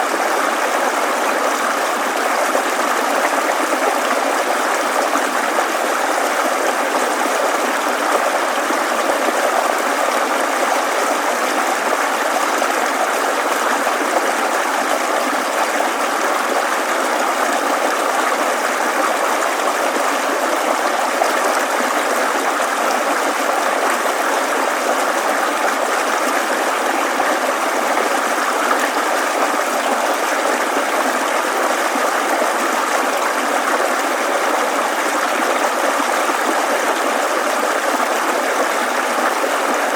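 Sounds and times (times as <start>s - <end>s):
babbling mountain stream: 0.0s - 39.9s.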